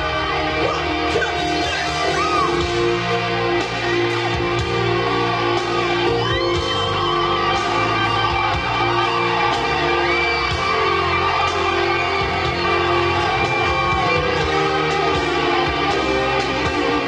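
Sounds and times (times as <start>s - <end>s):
band playing slow chords: 0.0s - 17.0s.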